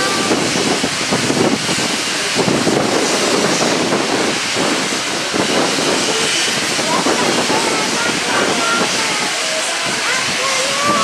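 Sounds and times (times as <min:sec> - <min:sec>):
steam train hissing: 0:00.0 - 0:11.0.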